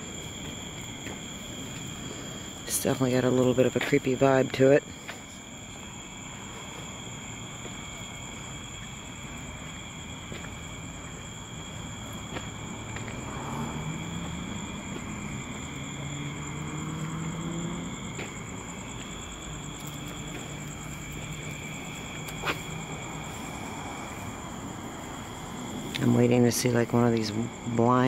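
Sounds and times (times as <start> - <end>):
crickets trilling: 0.0 - 28.0
distant engine hum: 0.0 - 28.0.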